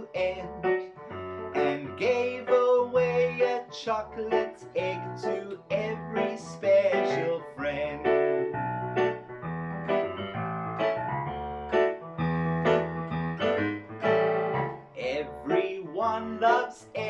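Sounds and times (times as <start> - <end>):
piano playing chords: 0.0 - 17.0.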